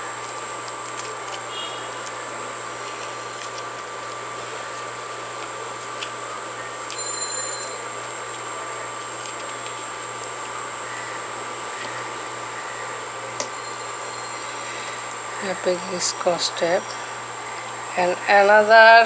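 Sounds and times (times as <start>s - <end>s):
faint high whine: 0.0s - 3.4s, 4.1s - 19.0s.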